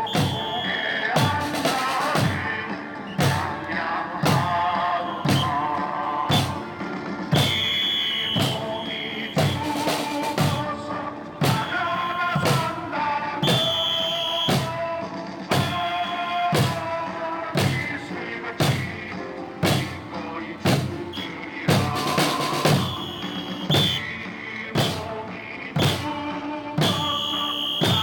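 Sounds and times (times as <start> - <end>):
music with heavy drum strokes: 0.0 - 28.0.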